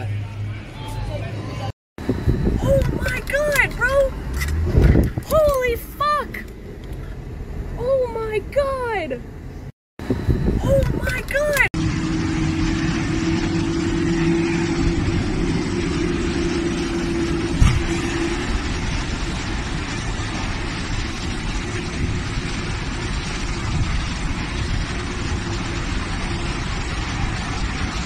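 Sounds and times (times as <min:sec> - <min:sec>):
steady hum: 0:02.0 - 0:28.0.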